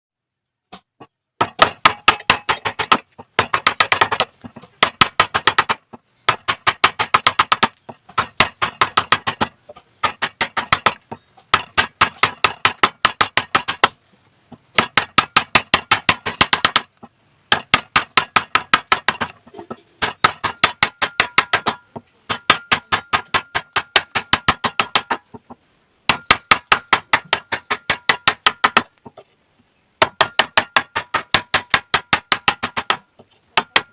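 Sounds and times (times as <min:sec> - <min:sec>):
hammer striking wood chisel: 0:00.7 - 0:14.0, 0:14.7 - 0:25.5, 0:26.1 - 0:29.0, 0:30.0 - 0:33.9.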